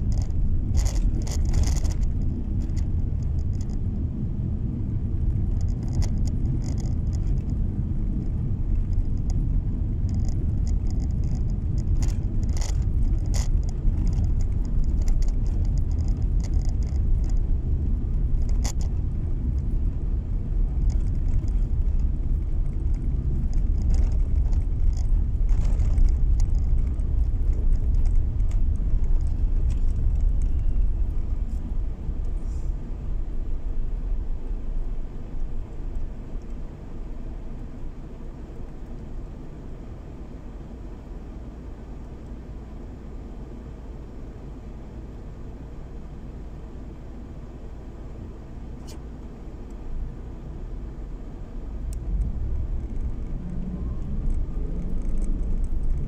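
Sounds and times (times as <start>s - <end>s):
road rumble inside car: 0.0s - 56.0s.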